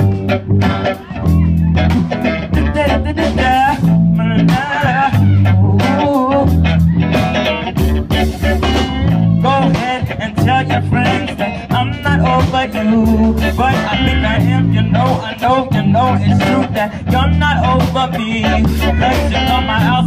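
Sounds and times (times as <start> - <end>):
bass guitar riff: 0.0 - 20.0
funk band playing: 0.0 - 20.0.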